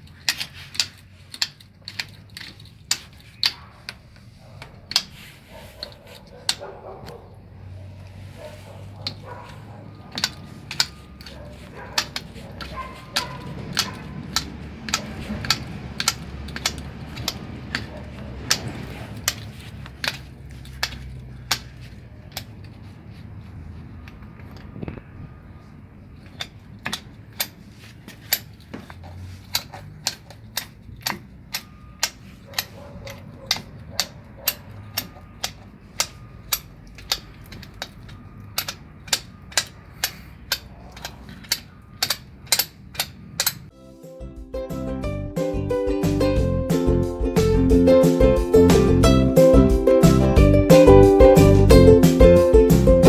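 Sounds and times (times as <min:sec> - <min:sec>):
sharp mechanical clicks: 0:00.0 - 0:43.7.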